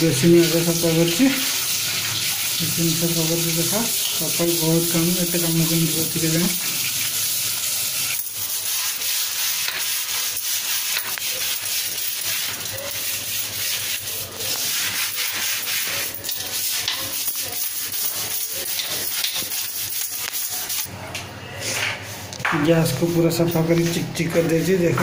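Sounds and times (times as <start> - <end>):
brush scrubbing a sink: 0.0 - 20.9, 21.6 - 25.0
tap water running: 0.0 - 20.9.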